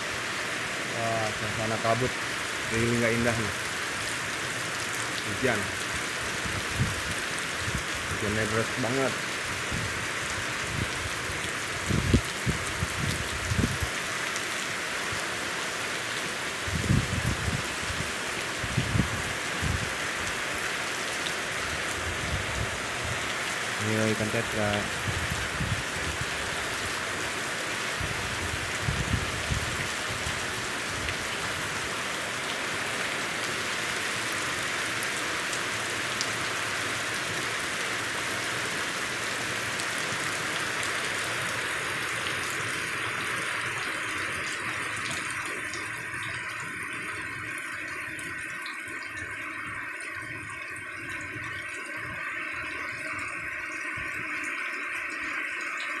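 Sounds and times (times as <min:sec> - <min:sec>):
heavy rain on pond water: 0:00.0 - 0:56.0.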